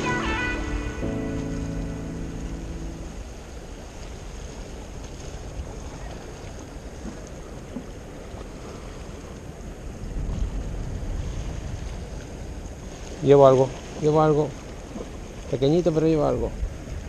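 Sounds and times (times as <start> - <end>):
wind buffeting microphone: 0.0 - 17.0
small waves on rocks: 3.0 - 17.0.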